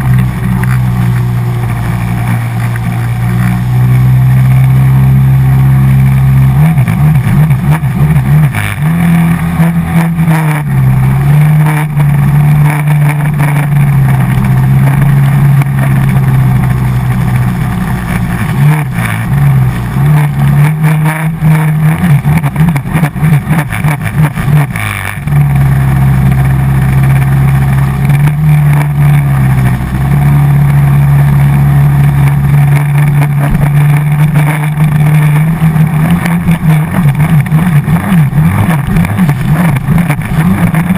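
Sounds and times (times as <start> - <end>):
jet ski engine running hard: 0.0 - 40.9.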